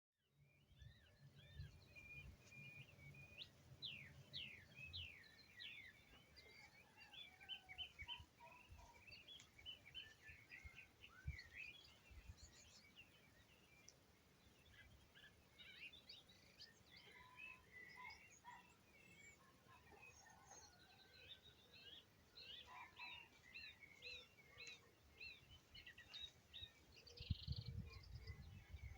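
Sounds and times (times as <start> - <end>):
songbirds chirping and singing: 0.3 - 28.9.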